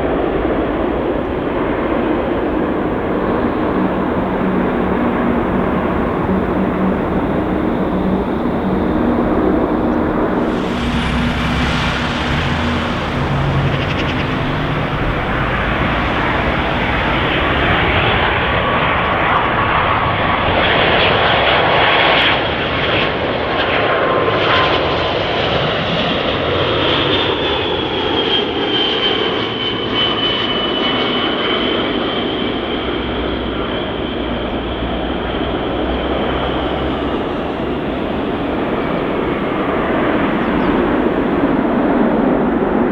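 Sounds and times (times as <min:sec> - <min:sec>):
jet engines roaring: 0:00.0 - 0:23.0, 0:31.5 - 0:42.9.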